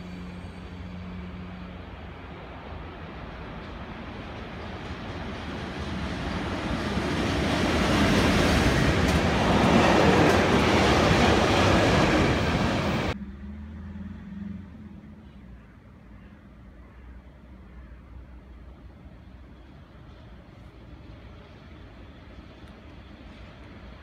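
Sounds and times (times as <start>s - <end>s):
freight train rumbling past: 0.0s - 15.2s, 18.6s - 24.0s.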